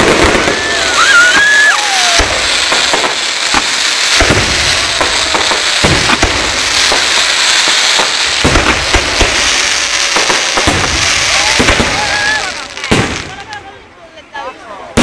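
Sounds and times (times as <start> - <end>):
fireworks booming: 0.0 - 13.9
fireworks crackle: 0.0 - 15.0.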